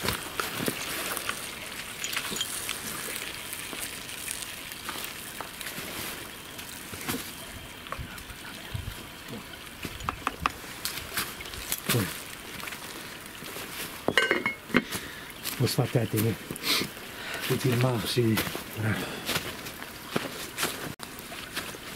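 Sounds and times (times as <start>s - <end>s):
stew simmering with soft hiss: 0.0s - 21.9s.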